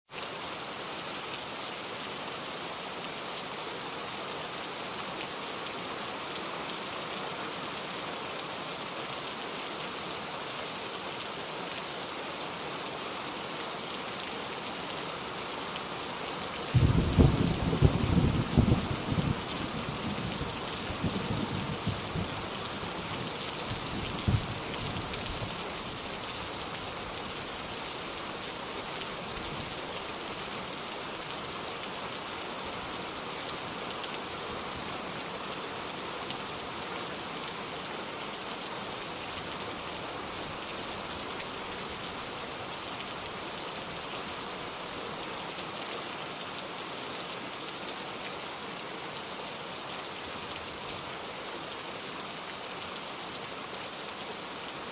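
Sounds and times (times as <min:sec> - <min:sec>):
heavy rain falling: 0:00.2 - 0:54.9.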